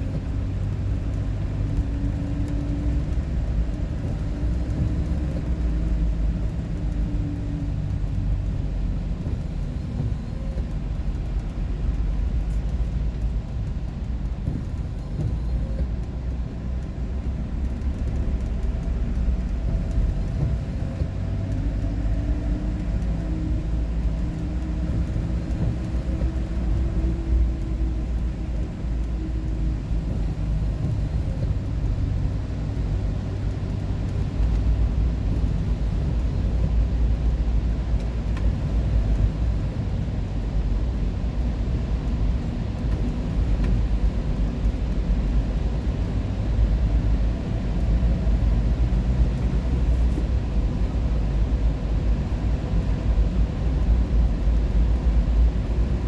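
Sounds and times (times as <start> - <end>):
vehicle driving on highway: 0.0 - 56.0.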